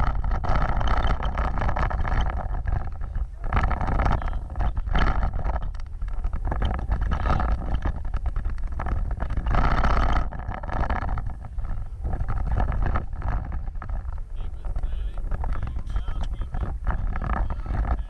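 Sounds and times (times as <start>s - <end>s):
knocks and rattles: 0.0s - 18.0s
off-road vehicle rumbling: 0.0s - 18.0s.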